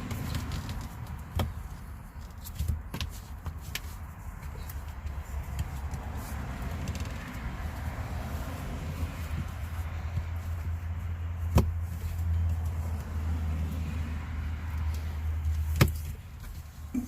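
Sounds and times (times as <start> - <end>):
low hum in truck cab: 0.0 - 17.0.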